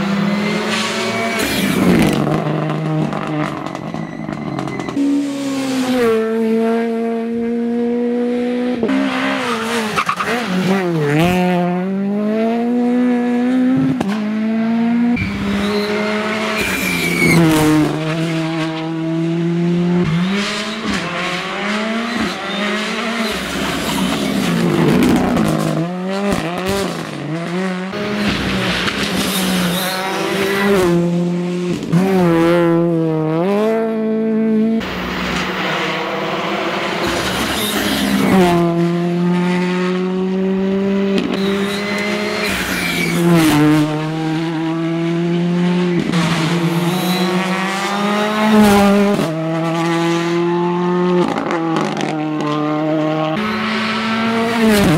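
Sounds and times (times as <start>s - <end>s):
rally car engines revving past: 0.0s - 54.9s.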